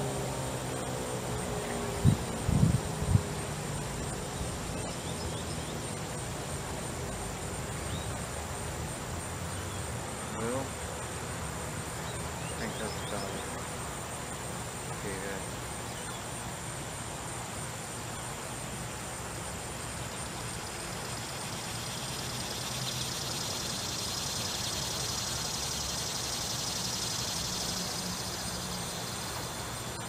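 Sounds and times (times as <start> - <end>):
high insect buzz: 0.0 - 30.0.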